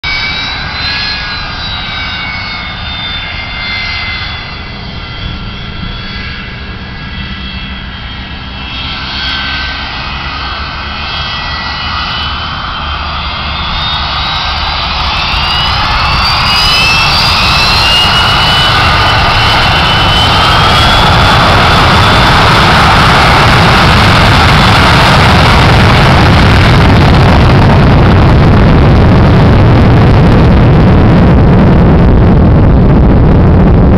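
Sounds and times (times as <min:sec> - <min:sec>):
jet engines whining and roaring: 0:00.0 - 0:33.9.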